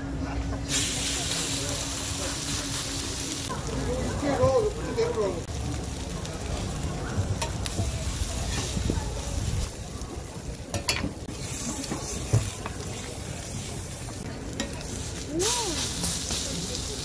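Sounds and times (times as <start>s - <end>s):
patty sizzling on griddle: 0.6s - 17.0s.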